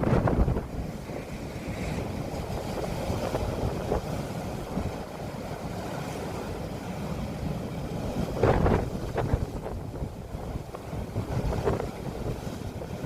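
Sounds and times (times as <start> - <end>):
wind buffeting microphone: 0.0 - 5.8, 7.9 - 13.0
waves rushing: 0.0 - 13.0.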